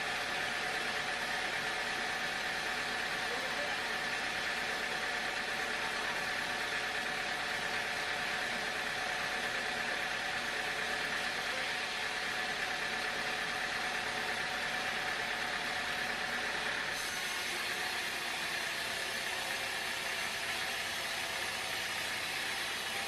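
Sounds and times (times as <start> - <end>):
sawmill machinery humming: 0.0 - 23.0.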